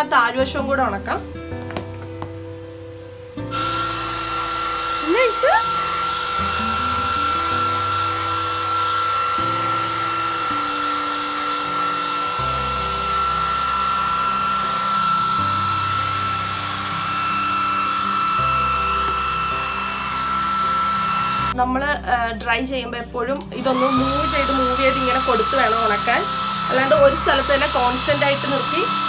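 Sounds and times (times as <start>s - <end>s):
background music with low chords: 0.0s - 29.0s
hair dryer running: 3.4s - 21.6s, 23.4s - 29.0s.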